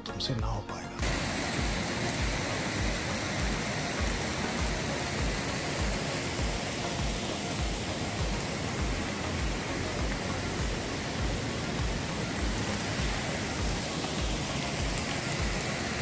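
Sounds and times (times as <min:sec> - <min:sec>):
flowing mountain stream: 0:01.0 - 0:16.0.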